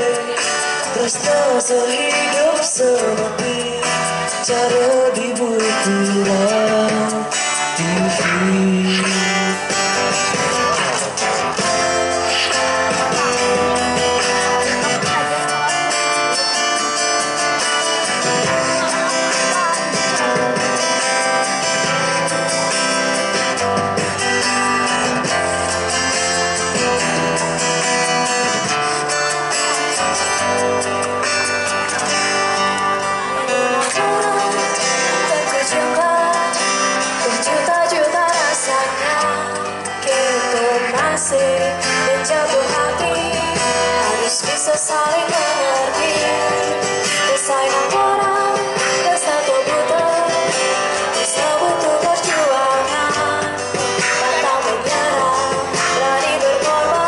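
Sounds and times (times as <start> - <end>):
woman singing into microphone: 0.0 - 22.2, 33.0 - 57.0
acoustic guitar strummed: 0.0 - 57.0.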